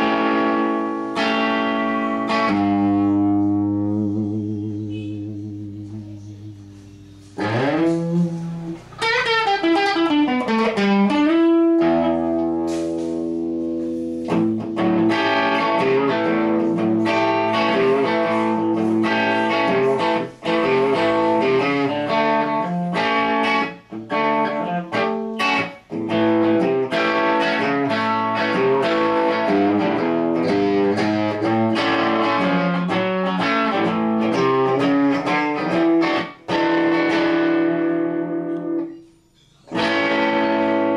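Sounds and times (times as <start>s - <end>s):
electric guitar playing: 0.0s - 40.9s.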